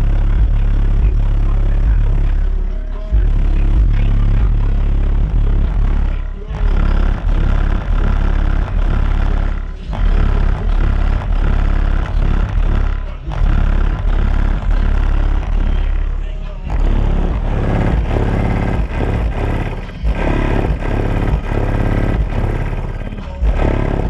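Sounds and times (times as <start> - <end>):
rap music with deep bass: 0.0 - 24.0.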